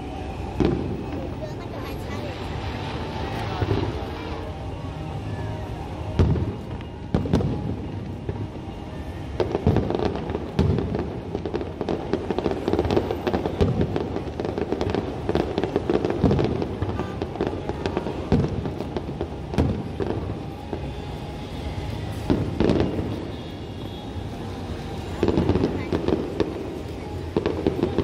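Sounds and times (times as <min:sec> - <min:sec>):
firework bangs: 0:00.0 - 0:04.8, 0:06.0 - 0:28.0
firework crackling: 0:00.0 - 0:28.0.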